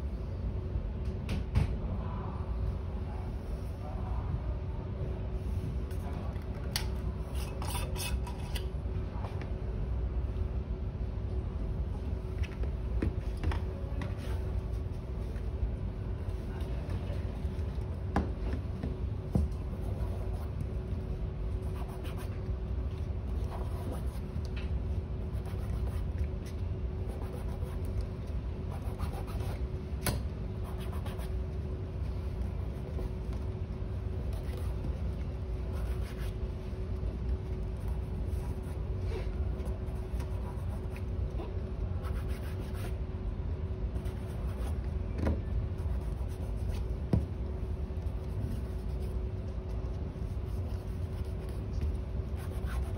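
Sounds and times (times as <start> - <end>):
faint constant hum: 0.0 - 52.9.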